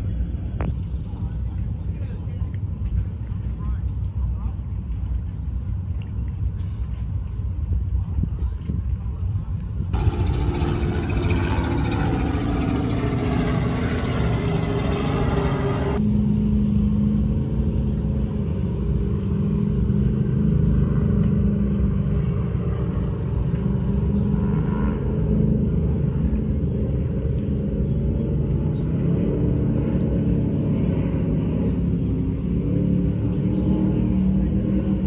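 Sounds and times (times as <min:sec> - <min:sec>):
powerboat engines rumbling: 0:00.0 - 0:35.0.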